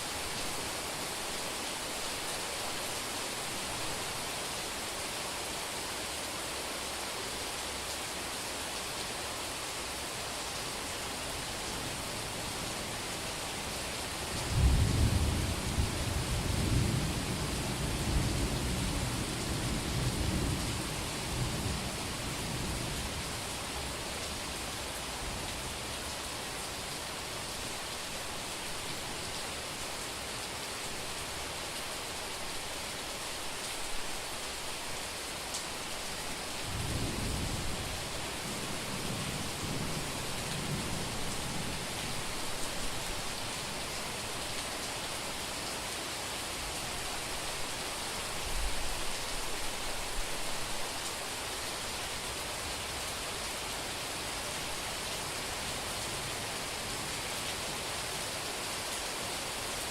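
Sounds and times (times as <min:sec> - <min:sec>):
rain falling on street: 0:00.0 - 0:59.9.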